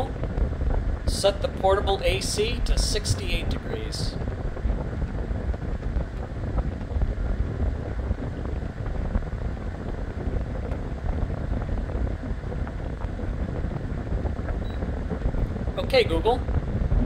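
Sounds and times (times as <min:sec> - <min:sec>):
air conditioner blowing air: 0:00.0 - 0:17.0.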